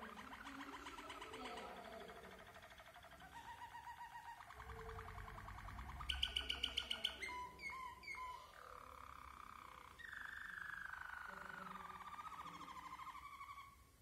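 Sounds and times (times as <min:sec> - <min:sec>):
canary singing trills: 0:00.0 - 0:14.0.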